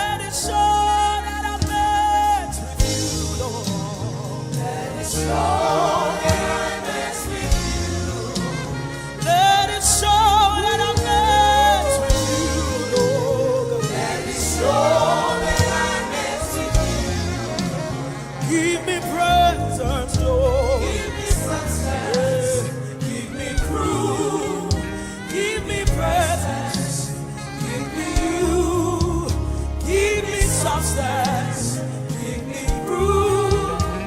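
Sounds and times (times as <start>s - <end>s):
gospel singers holding long notes: 0.0s - 34.0s
instrumental accompaniment with bass: 0.0s - 34.0s.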